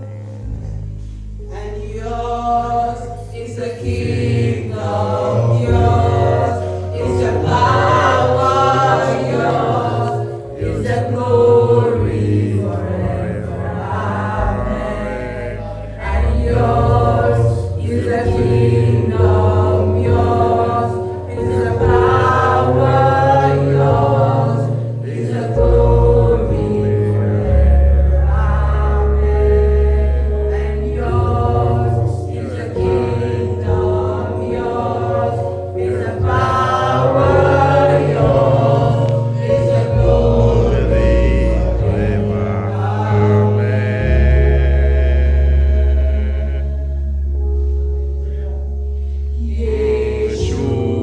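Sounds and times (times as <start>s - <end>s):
choir singing gospel song: 0.0s - 51.0s
low bass notes: 0.0s - 51.0s.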